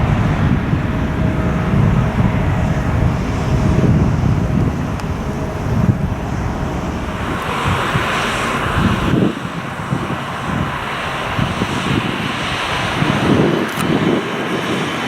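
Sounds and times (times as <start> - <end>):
jet airliner engines roaring: 0.0 - 15.0
wind buffeting microphone: 0.0 - 15.0.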